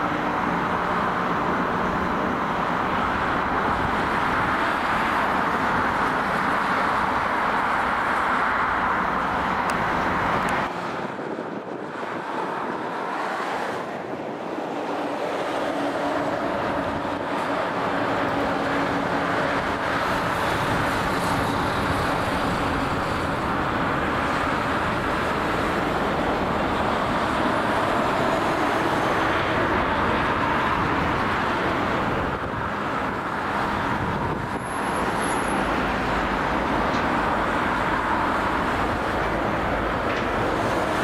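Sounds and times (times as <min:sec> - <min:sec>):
jet engines rumbling: 0:00.0 - 0:41.0.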